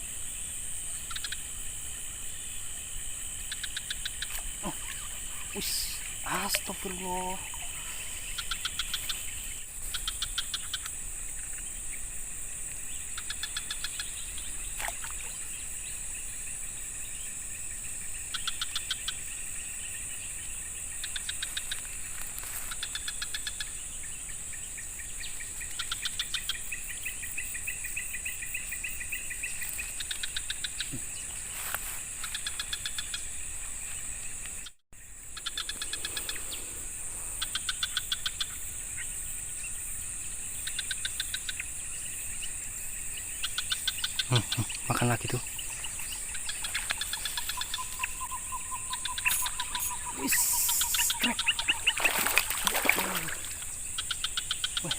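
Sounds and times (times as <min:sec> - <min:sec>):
insects droning: 0:00.0 - 0:54.9
insects pulsed chirping: 0:00.0 - 0:54.9.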